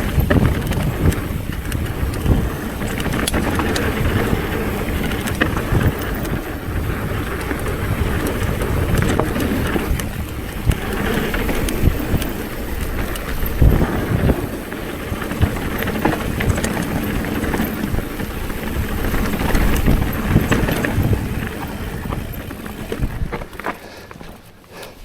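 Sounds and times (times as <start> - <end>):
wind rushing on microphone: 0.0 - 23.6
bicycle rattling over bumps: 0.0 - 25.0.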